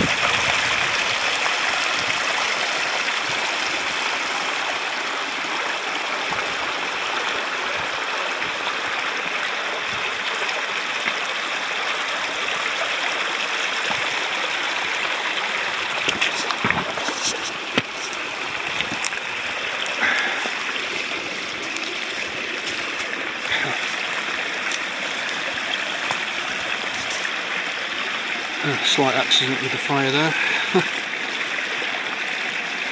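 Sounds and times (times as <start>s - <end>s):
stream running: 0.0s - 32.9s.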